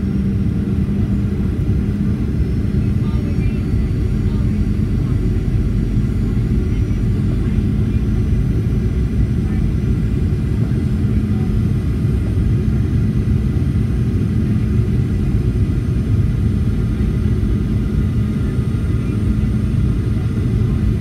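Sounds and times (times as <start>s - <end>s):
airflow over fuselage: 0.0s - 21.0s
jet engines rumbling: 0.0s - 21.0s.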